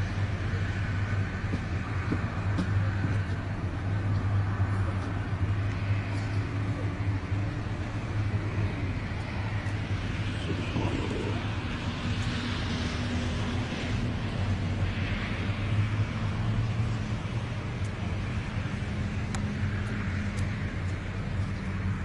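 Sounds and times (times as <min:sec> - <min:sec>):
continuous rushing noise: 0:00.0 - 0:22.0
low engine drone: 0:00.0 - 0:22.0.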